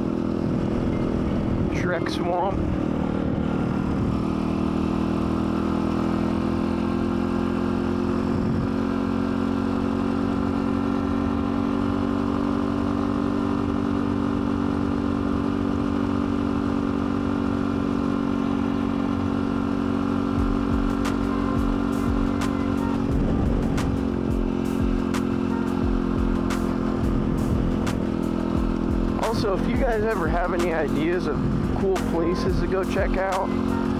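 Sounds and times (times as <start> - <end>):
dirt bike engine running: 0.0 - 33.9.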